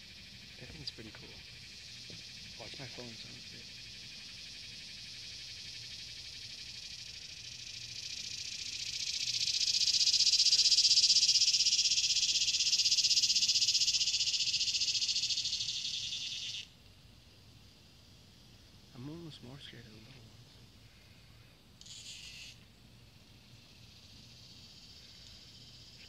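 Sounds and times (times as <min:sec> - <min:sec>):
cicada buzzing: 0:00.0 - 0:26.0.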